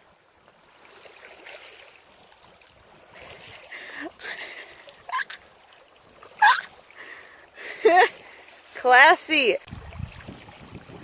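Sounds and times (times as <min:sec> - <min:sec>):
small waves lapping on shore: 0:00.0 - 0:11.0.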